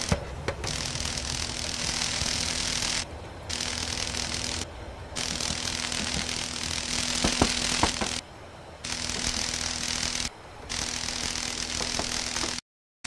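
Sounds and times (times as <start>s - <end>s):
rattling crackling noise: 0.0s - 8.2s, 8.8s - 12.6s
constant buzz: 0.0s - 12.6s.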